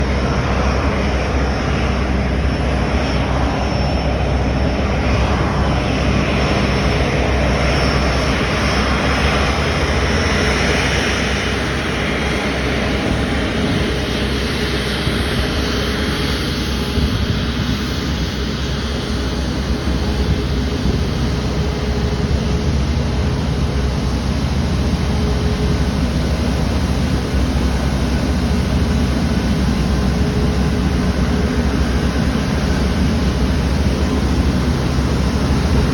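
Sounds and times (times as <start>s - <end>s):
high engine whine: 0.0s - 35.9s
jet engines idling: 0.0s - 35.9s.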